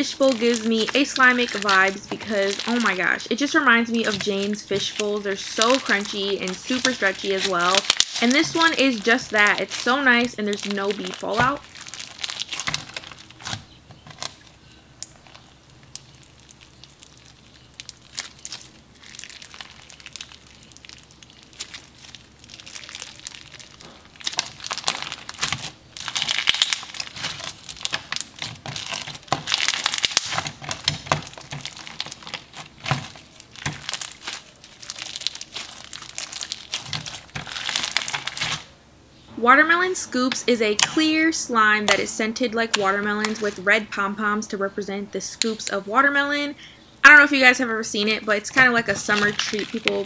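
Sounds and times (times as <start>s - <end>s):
crunchy slime being squeezed: 0.0s - 38.8s, 48.5s - 50.0s.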